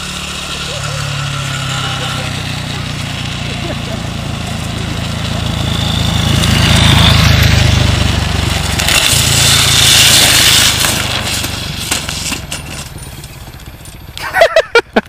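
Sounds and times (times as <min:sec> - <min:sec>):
wheels scraping across asphalt: 0:00.0 - 0:14.2
low engine drone: 0:00.0 - 0:15.0.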